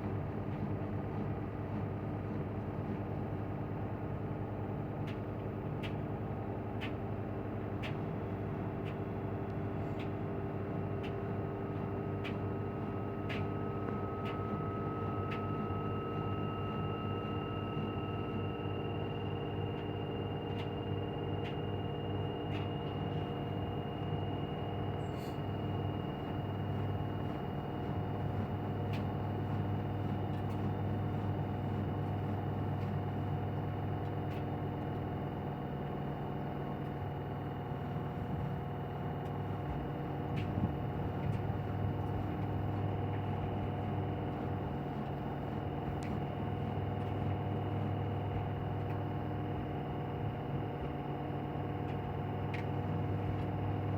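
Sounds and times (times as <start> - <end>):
washing machine spinning: 10.6 - 53.9.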